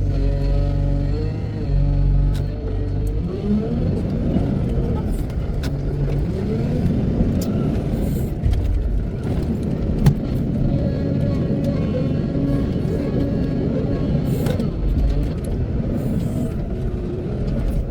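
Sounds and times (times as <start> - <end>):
diesel engine revving under load: 0.0 - 17.9.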